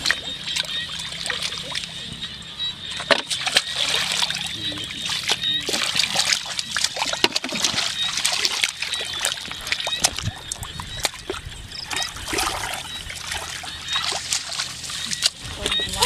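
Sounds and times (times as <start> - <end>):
shallow water splashing: 0.0 - 16.0.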